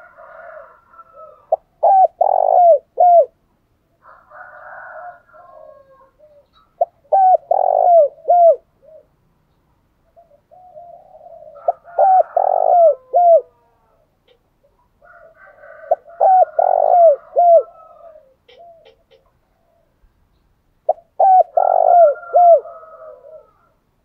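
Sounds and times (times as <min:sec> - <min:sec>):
dove cooing: 0:00.0 - 0:03.4, 0:04.1 - 0:09.2, 0:10.0 - 0:20.1, 0:20.8 - 0:23.8.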